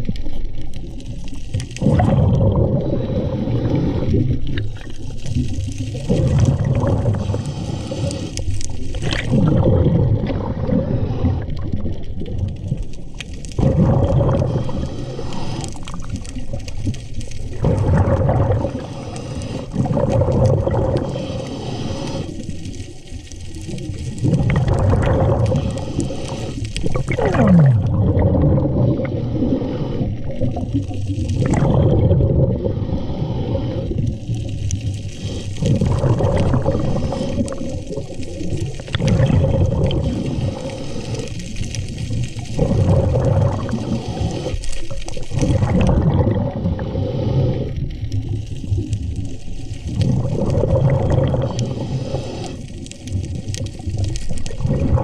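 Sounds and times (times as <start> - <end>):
underwater water gurgling and rushing: 0.0 - 55.0.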